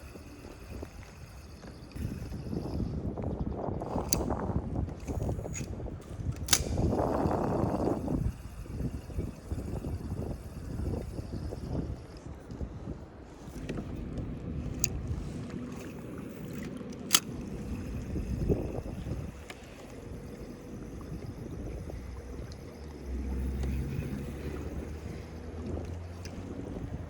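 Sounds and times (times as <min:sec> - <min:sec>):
water noise: 0:00.0 - 0:27.0
wind: 0:00.0 - 0:27.0.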